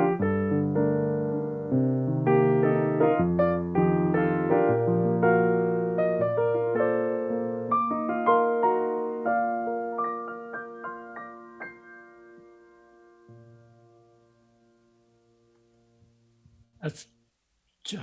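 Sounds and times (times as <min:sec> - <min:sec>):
solo piano playing: 0:00.0 - 0:16.7.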